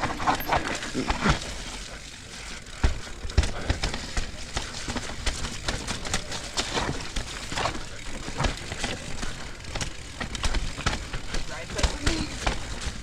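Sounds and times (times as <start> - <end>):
bike tyres rolling over dirt: 0.0 - 13.0
chain and frame clatter: 0.0 - 13.0.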